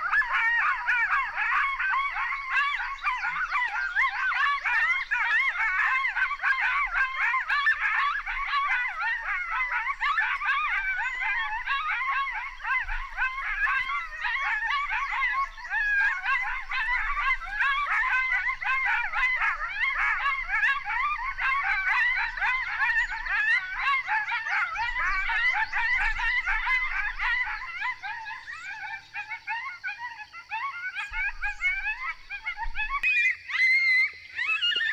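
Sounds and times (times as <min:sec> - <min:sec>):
coyotes yipping and howling: 0:00.0 - 0:34.9.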